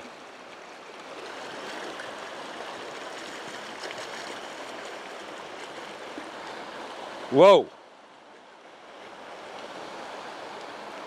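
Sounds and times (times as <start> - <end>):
river flowing over rocks: 0.0 - 11.0.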